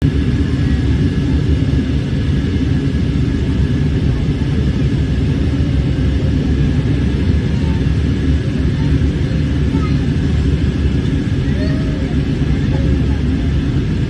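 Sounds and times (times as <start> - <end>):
airplane engines rumbling: 0.0 - 14.0.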